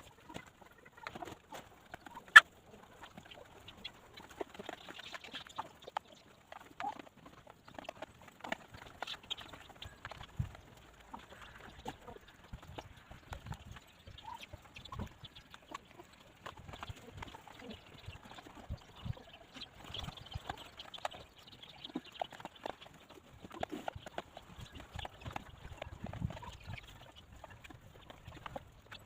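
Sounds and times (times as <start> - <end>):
chickens pecking ground: 0.0 - 29.0.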